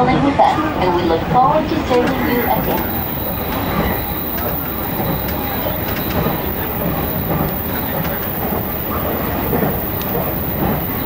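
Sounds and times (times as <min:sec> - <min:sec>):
train running noise: 0:00.0 - 0:11.0
faint clicks: 0:01.9 - 0:11.0.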